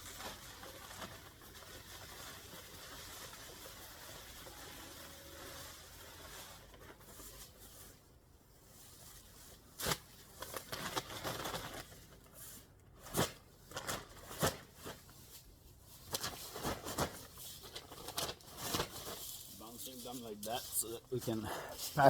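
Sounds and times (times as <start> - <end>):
paper bags of leaves rustling: 0.0 - 22.0.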